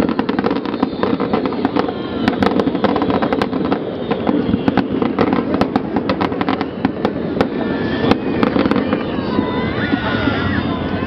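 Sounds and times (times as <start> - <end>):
fireworks cracking and popping: 0.0 - 11.0.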